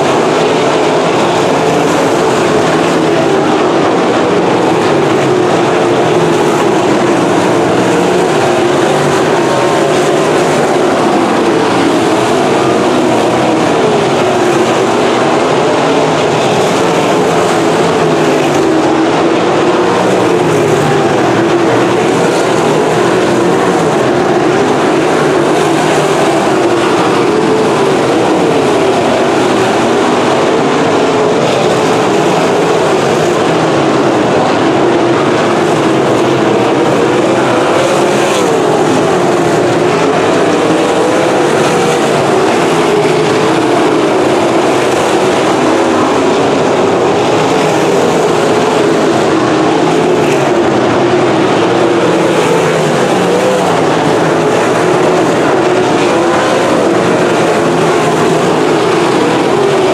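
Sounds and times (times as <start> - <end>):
racing car engines: 0.0 - 59.9.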